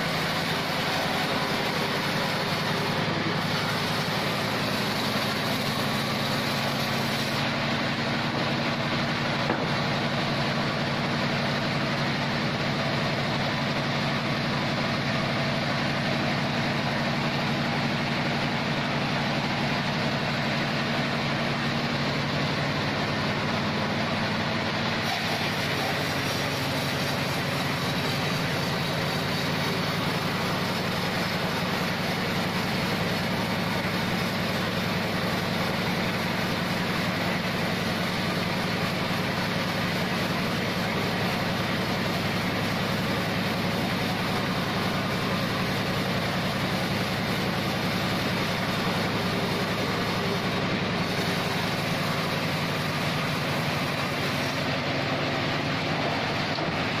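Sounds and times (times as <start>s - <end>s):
engine-driven band saw running: 0.0s - 57.0s.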